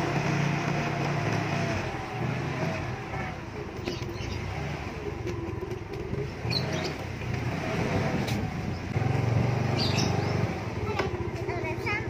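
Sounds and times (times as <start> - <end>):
skate wheels rolling on pavement: 0.0 - 12.0.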